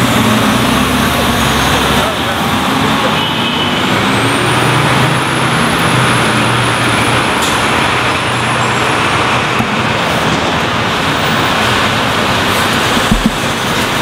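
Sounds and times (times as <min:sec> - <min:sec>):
bus engine rumbling: 0:00.0 - 0:14.0
street traffic: 0:00.0 - 0:14.0.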